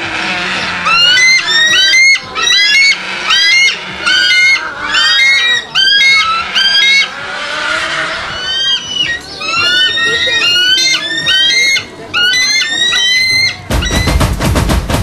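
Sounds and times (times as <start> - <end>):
eagle high piping calls: 0.2 - 14.4.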